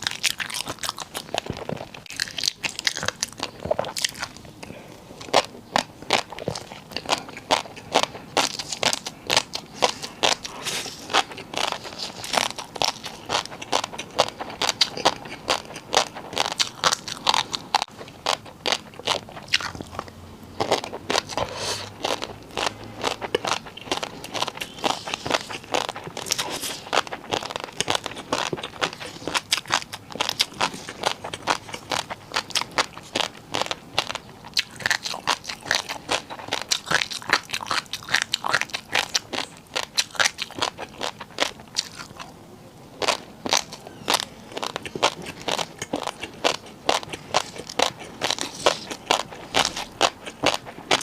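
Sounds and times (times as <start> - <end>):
crunching noodles: 0.0 - 51.0.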